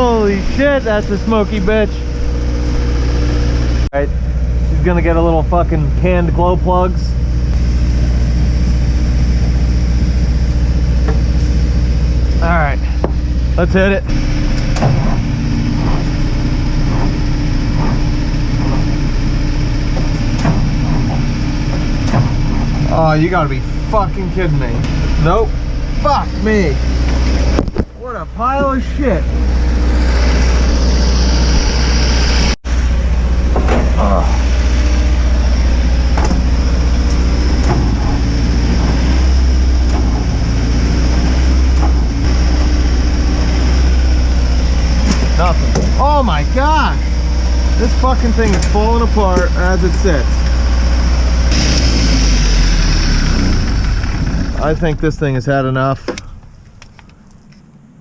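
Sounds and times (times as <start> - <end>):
diesel engine cranking: 0.0 - 58.0.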